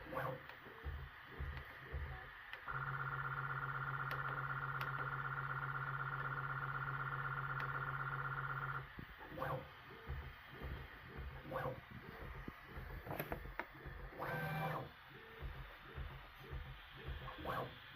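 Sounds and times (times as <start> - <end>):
printer motor buzzing: 0.0 - 17.9
printer stepper motors whining: 0.0 - 17.9.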